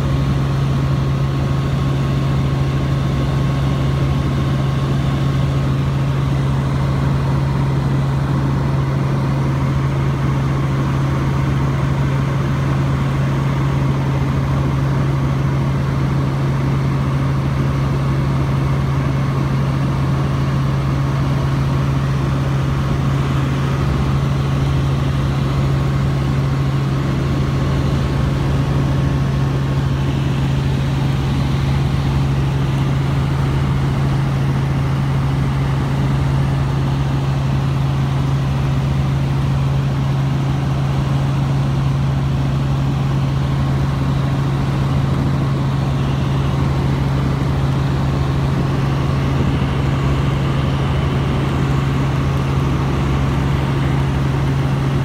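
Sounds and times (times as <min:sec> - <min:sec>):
helicopter cabin hum: 0:00.0 - 0:55.0.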